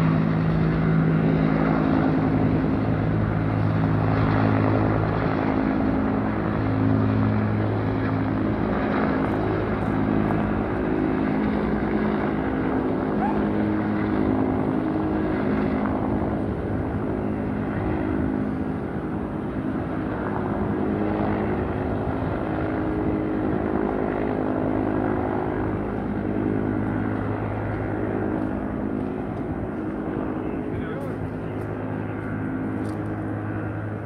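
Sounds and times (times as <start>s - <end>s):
helicopter rotor and turbine hum: 0.0s - 34.0s.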